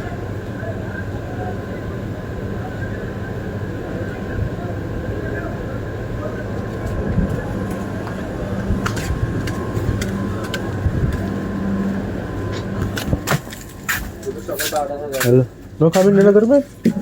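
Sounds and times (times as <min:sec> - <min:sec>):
noisy background: 0:00.0 - 0:17.0
steady mechanical hum: 0:00.0 - 0:17.0.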